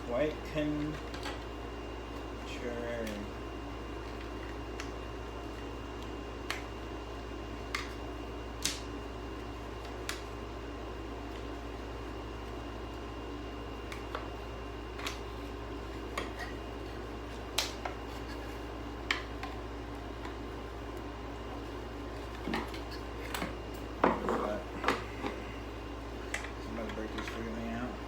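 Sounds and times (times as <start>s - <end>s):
background hum: 0.0s - 28.0s.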